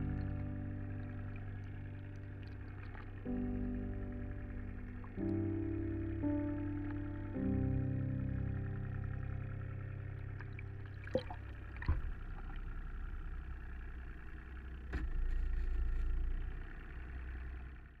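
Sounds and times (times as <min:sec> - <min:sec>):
muffled boat engine hum: 0:00.0 - 0:18.0.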